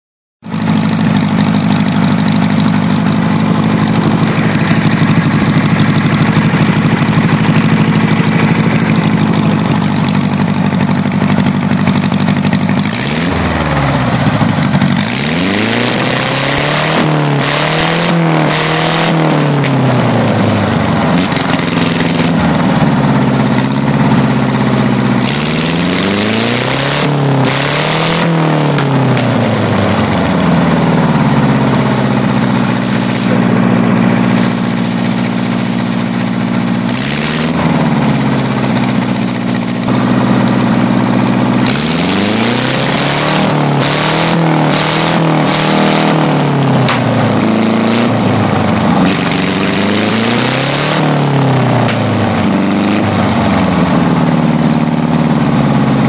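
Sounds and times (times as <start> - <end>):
generator engine running and revving: 0.4 - 56.0.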